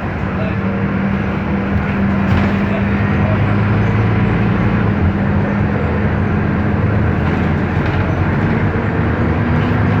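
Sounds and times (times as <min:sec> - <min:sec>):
bus diesel engine running: 0:00.0 - 0:10.0
road and body rumble: 0:00.0 - 0:10.0.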